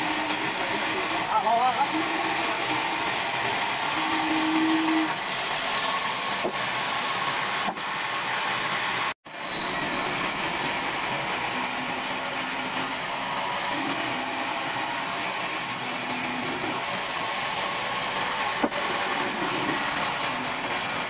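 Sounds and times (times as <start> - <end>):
band saw cutting through log: 0.0 - 21.0.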